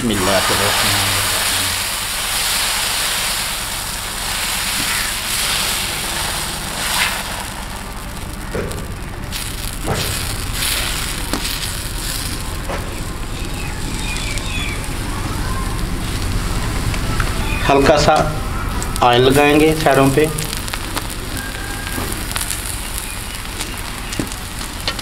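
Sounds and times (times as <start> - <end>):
batter sizzling on hot iron: 0.0 - 25.0.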